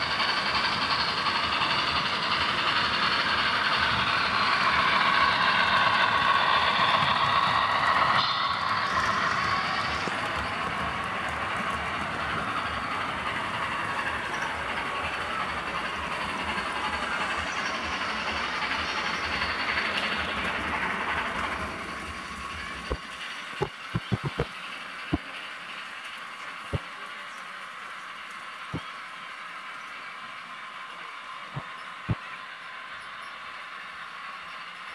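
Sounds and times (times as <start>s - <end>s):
model train rolling rumble: 0.0s - 34.9s
wheels clicking over rail joints: 0.0s - 34.9s.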